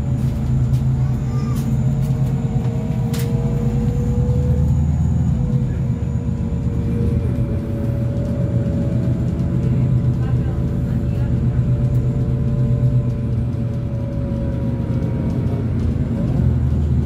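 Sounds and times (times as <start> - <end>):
bus engine hum with whine: 0.0 - 17.0.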